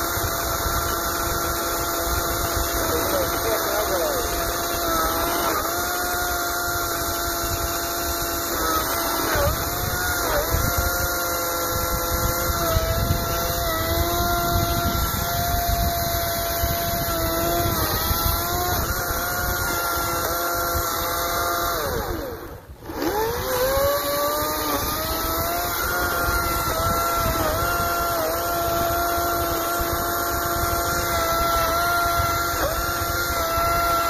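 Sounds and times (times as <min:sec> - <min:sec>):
electric chainsaw cutting log: 0:00.0 - 0:34.0.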